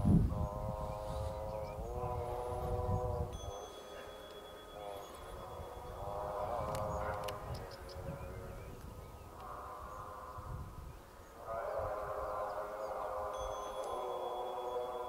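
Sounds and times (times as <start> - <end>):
wind on microphone: 0.0 - 3.6, 4.8 - 14.0
deep droning tones: 0.0 - 15.0.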